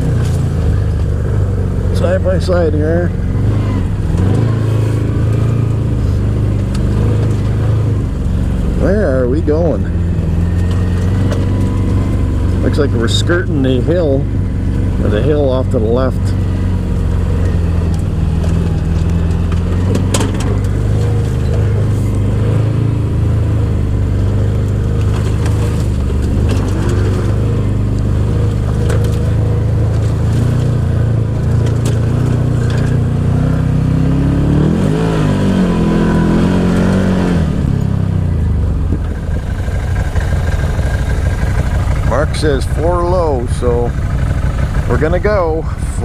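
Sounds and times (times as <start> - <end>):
utility vehicle engine running: 0.0 - 46.0.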